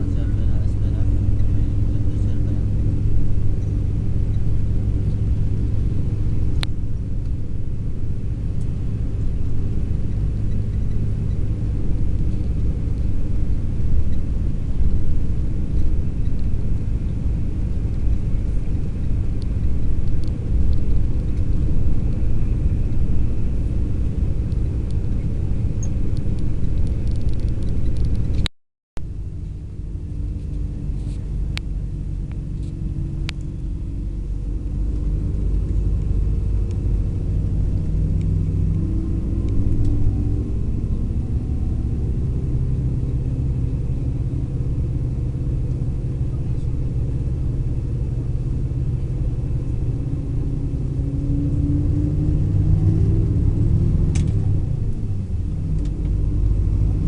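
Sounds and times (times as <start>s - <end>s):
coach engine and road rumble: 0.0s - 57.0s.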